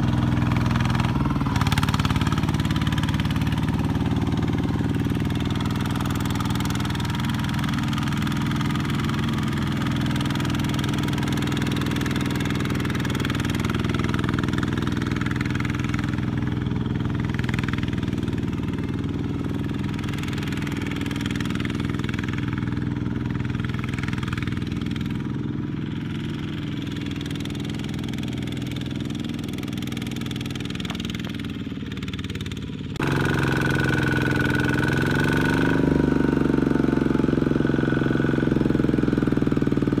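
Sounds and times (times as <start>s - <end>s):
high steady engine whine: 0.0s - 40.0s
small diesel engine running: 0.0s - 40.0s.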